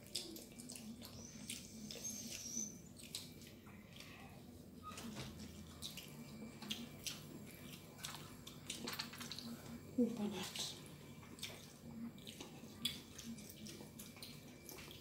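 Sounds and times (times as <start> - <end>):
chewing and lip-smacking: 0.0 - 15.0
faint low hum: 0.0 - 15.0.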